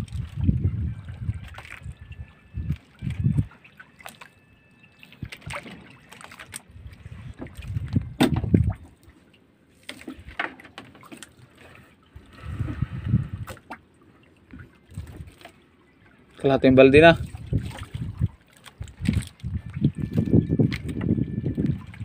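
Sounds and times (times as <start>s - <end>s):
water sloshing around boat: 0.0s - 22.0s.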